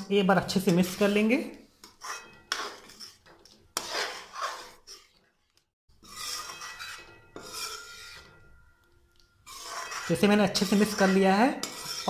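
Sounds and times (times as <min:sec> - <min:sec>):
spoon scraping metal pan: 0:00.0 - 0:12.0.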